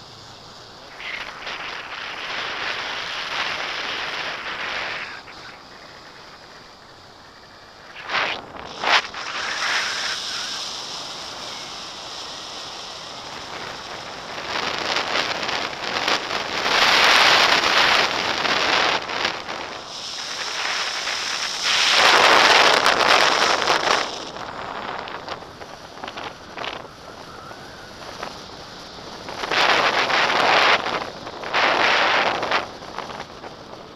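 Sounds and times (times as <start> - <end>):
wind buffeting gusts: 0.0 - 33.9
wind on microphone: 0.8 - 33.9.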